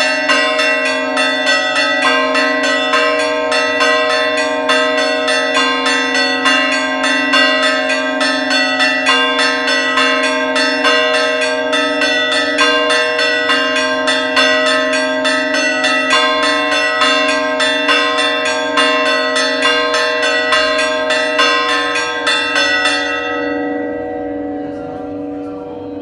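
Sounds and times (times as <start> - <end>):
rapid church bell strikes: 0.0 - 26.0
steady bell ringing hum: 0.0 - 26.0.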